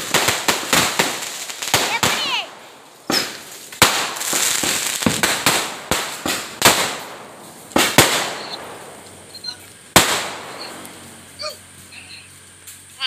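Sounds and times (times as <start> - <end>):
fireworks bangs with hiss: 0.0 - 13.0.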